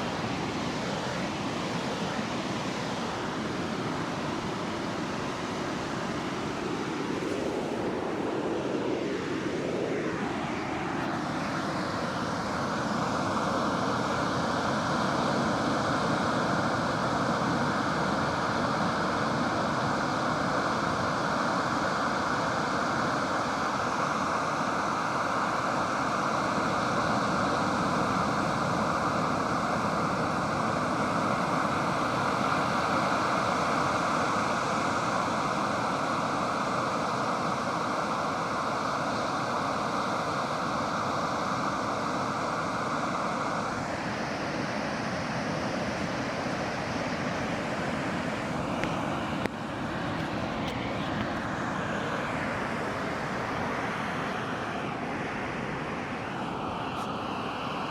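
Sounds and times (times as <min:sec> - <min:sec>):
waves breaking on beach: 0:00.0 - 0:57.9.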